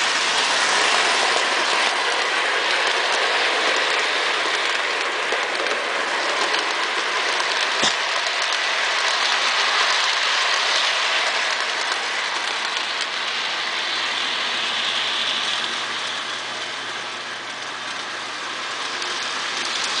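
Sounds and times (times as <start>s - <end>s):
model train wheels clattering on rails: 0.0s - 20.0s.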